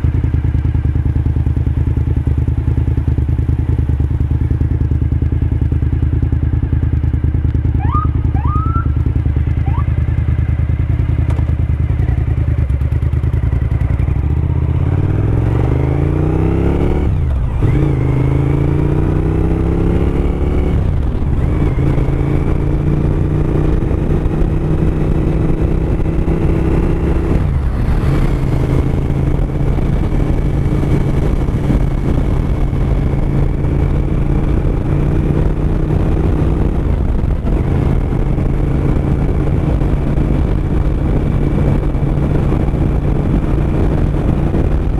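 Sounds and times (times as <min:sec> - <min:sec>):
motorcycle engine shifting gears: 0:00.0 - 0:44.9.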